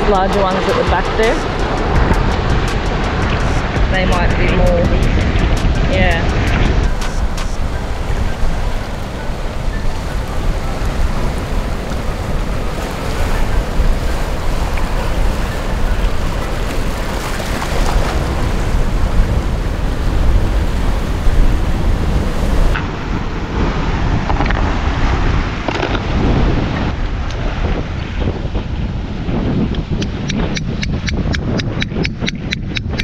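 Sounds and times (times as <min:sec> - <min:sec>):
waves washing on shore: 0:00.0 - 0:31.6
wind buffeting microphone: 0:00.0 - 0:33.0.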